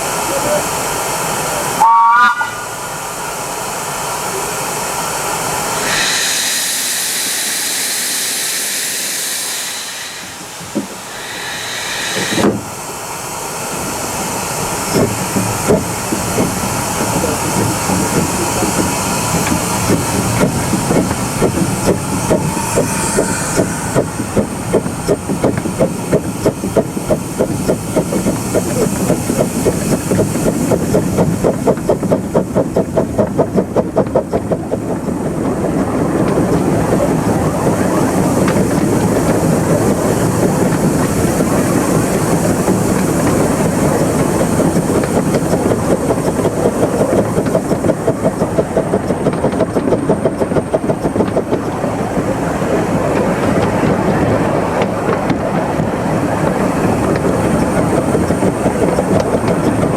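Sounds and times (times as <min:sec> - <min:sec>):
steam locomotive exhaust beats: 0:00.0 - 0:59.9
wheels clattering on rail: 0:05.5 - 0:13.1, 0:13.7 - 0:59.9.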